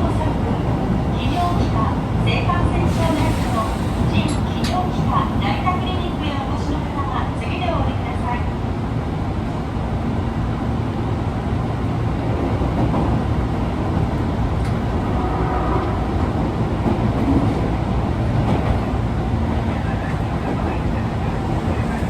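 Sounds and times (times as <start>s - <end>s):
subway car running rumble: 0.0s - 22.0s.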